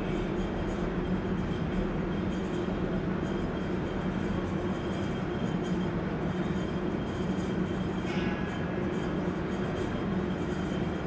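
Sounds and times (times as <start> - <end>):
subway car equipment humming: 0.0 - 11.0.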